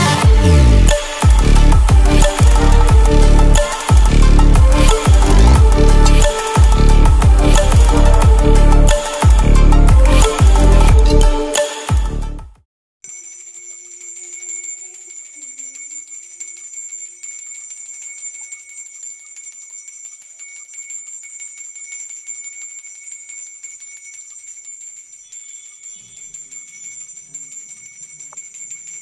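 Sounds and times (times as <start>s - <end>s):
bell ringing rapidly: 0.0s - 11.7s, 13.0s - 29.0s.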